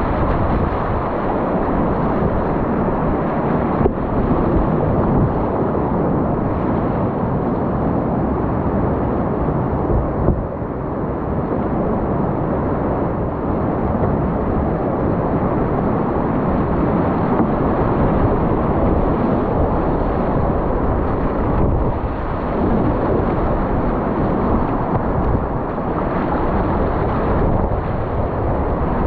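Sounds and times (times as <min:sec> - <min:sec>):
whitewater rushing: 0:00.0 - 0:29.0.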